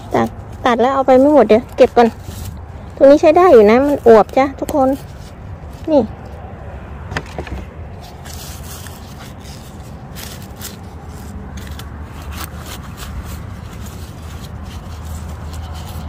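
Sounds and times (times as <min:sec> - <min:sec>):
leaves rustling and crackling: 0:00.0 - 0:06.4, 0:07.9 - 0:16.0.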